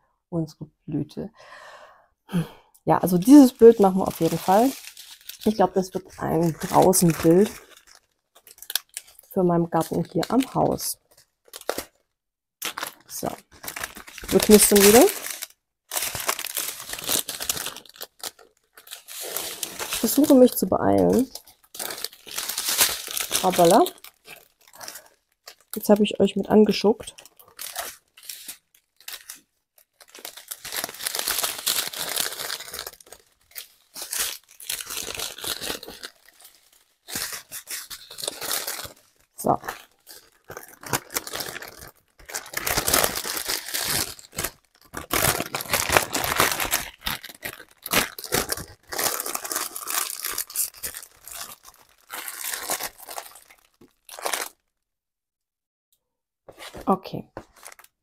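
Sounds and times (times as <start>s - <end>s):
plastic bags crinkling: 3.0s - 54.8s, 56.7s - 58.0s.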